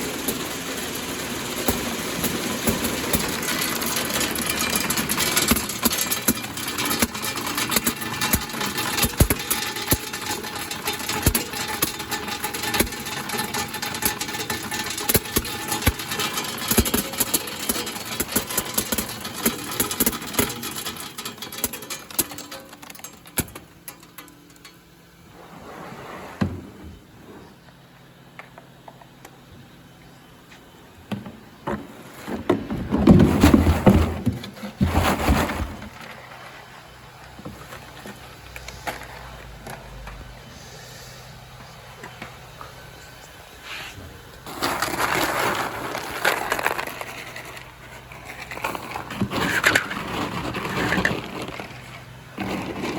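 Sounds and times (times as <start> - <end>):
rustling and clattering: 0.0 - 29.2, 30.6 - 40.4, 41.6 - 52.9
sorting machine humming: 0.0 - 52.9.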